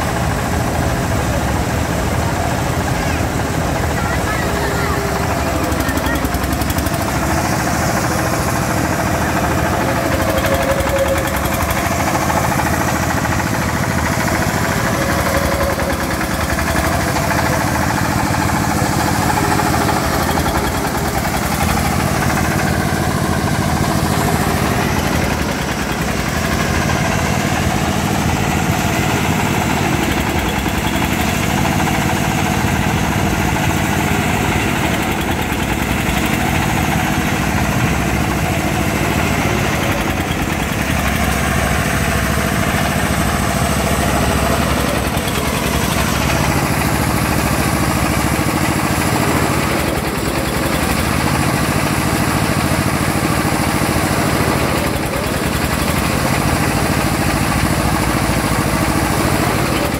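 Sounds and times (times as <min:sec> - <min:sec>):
fairground ride engine running: 0:00.0 - 0:59.9.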